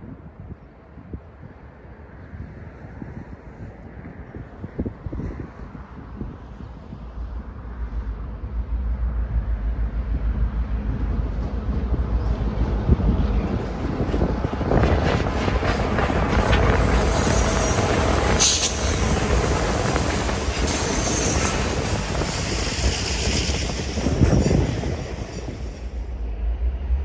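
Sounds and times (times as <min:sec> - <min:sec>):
diesel locomotive engine drone: 0:00.0 - 0:27.0
train wheels rumbling on rails: 0:02.3 - 0:27.0.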